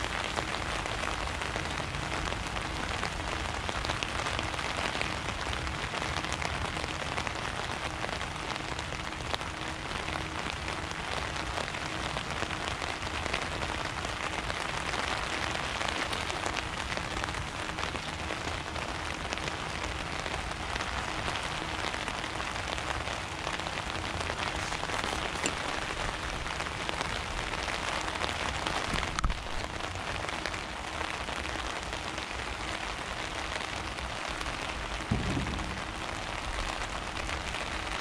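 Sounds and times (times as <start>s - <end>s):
rain pattering: 0.0s - 38.0s.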